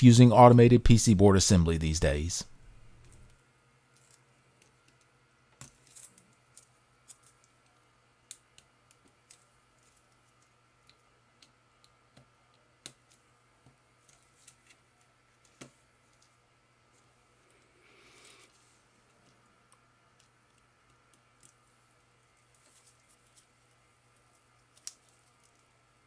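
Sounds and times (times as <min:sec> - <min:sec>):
quiet steady hum: 0:00.0 - 0:26.0.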